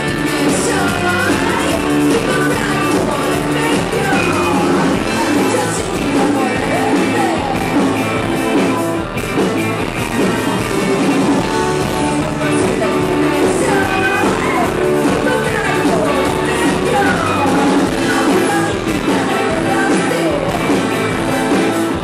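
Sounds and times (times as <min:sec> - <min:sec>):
person singing into a microphone: 0:00.0 - 0:09.1, 0:10.1 - 0:22.0
electric guitar: 0:00.0 - 0:22.0
live rock band playing: 0:00.0 - 0:22.0.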